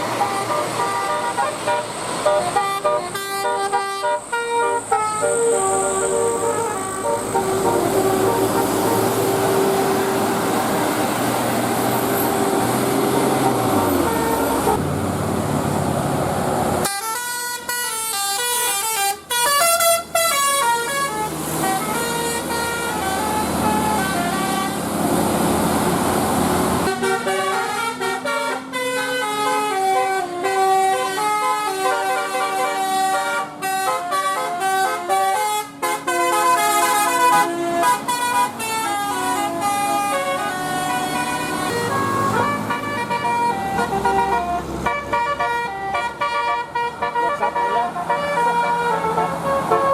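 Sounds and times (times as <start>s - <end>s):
musical air horn tune: 0.0s - 11.2s, 16.8s - 24.9s, 26.8s - 49.9s.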